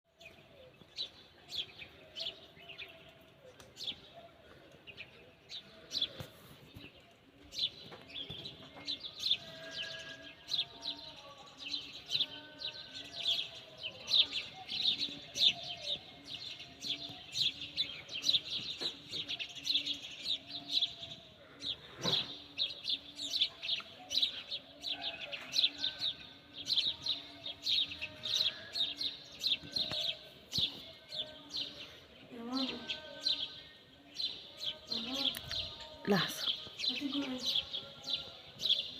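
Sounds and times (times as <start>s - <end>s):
small birds chirping rapidly: 0.1s - 38.9s.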